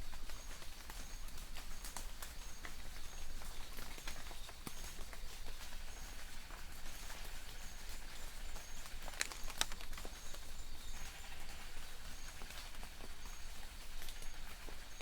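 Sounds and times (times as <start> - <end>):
distant birds calling: 0.0 - 15.0
light rain on leaves: 0.0 - 15.0.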